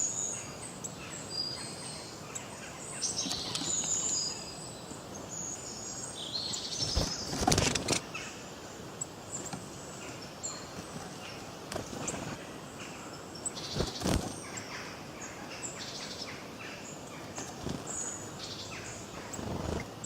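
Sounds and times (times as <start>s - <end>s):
forest birds singing: 0.0s - 20.0s.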